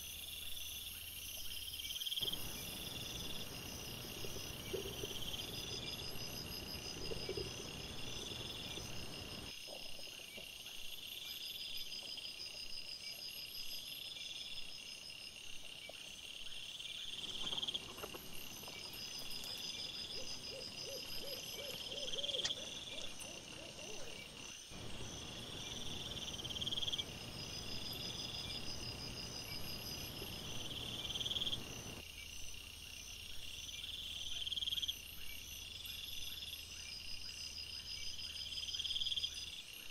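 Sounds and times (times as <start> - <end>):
crickets trilling in pulses: 0.0 - 9.5, 13.0 - 39.9
background hiss: 0.0 - 32.1.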